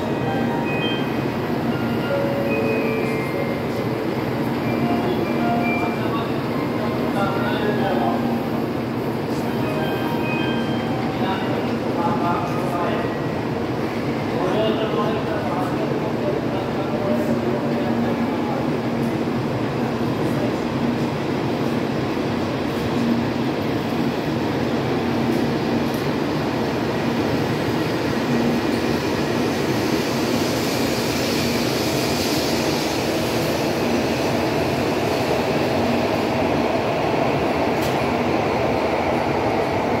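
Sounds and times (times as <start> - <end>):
train running noise and hum: 0.0 - 40.0
train rushing sound: 0.0 - 40.0.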